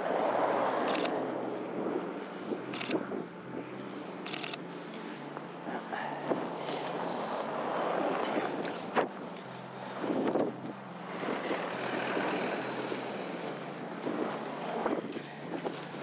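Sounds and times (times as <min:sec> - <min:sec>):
wind buffeting microphone: 0:00.0 - 0:04.8, 0:05.5 - 0:16.0.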